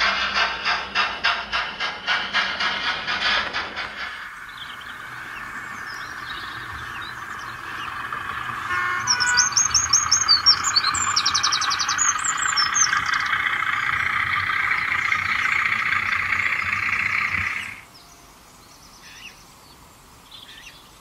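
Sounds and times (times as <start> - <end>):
steady hiss: 0.0 - 21.0
birds chirping: 2.3 - 21.0.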